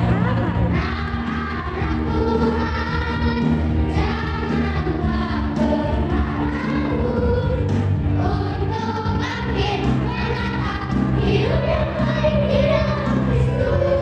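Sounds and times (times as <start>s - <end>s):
choir singing: 0.0s - 14.0s
sustained low accompaniment: 0.0s - 14.0s.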